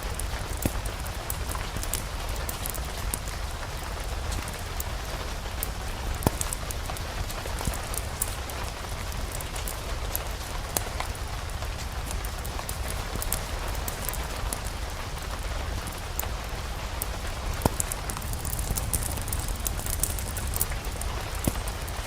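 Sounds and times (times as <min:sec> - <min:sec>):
fireplace fire popping and crackling: 0:00.0 - 0:22.0
rain hiss: 0:00.0 - 0:22.0.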